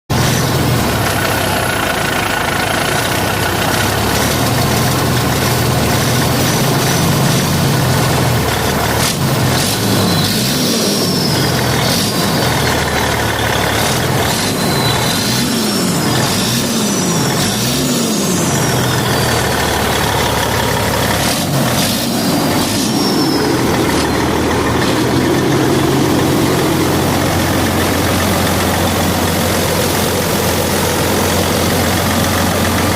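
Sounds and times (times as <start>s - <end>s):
diesel truck engine cranking: 0.1s - 32.9s
diesel truck engine idling: 0.1s - 32.9s.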